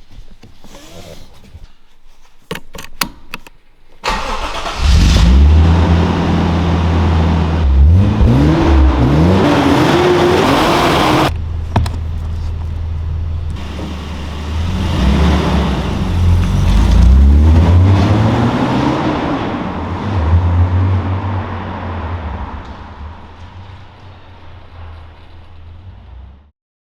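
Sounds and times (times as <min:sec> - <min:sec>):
car engine and exhaust revving: 0:04.1 - 0:26.5.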